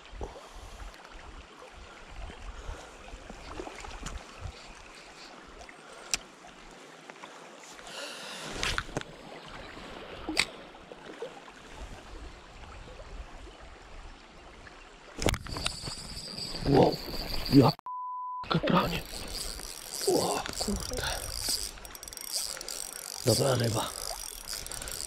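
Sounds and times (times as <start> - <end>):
river water flowing over stones: 0.0 - 17.8, 18.5 - 25.0.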